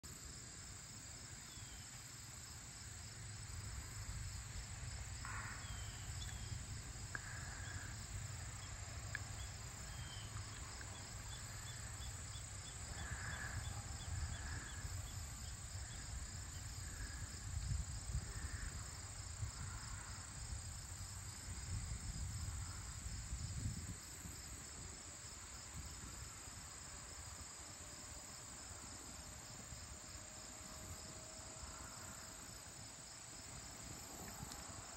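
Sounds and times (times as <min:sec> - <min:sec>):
crickets trilling: 0:00.1 - 0:34.9
fast pulsing insect chirp: 0:00.2 - 0:34.9.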